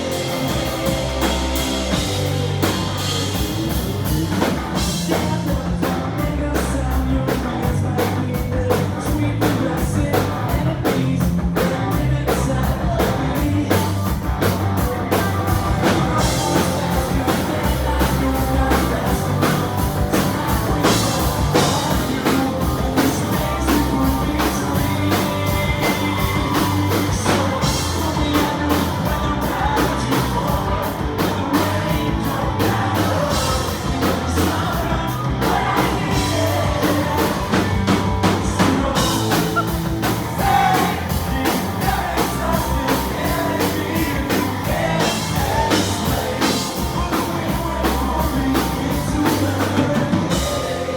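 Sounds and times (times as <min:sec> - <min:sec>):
drum kit: 0:00.0 - 0:50.9
guitar: 0:00.0 - 0:50.9
person singing lead vocal: 0:00.0 - 0:50.9.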